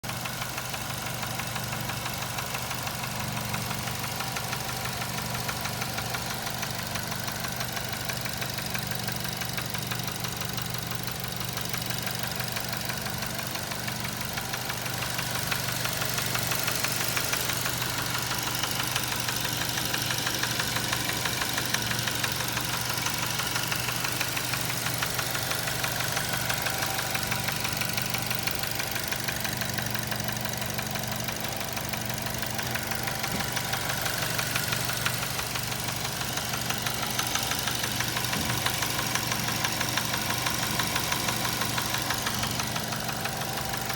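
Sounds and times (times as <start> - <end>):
car engine knocking: 0.0 - 43.9.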